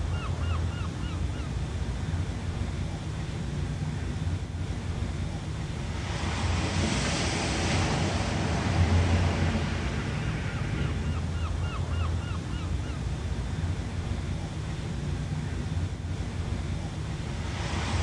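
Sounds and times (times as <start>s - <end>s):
low rumble of the sea: 0.0s - 18.0s
wave breaking and washing in: 1.6s - 18.0s.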